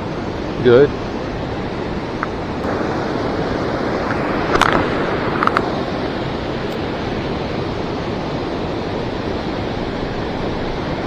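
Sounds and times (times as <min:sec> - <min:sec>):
white water rushing: 0:00.0 - 0:11.0.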